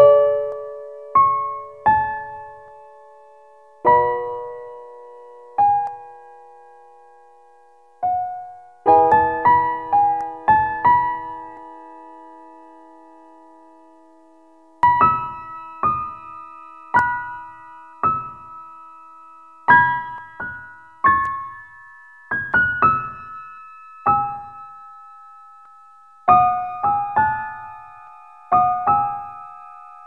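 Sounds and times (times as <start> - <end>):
slow piano-like keyboard notes: 0.0 - 30.0.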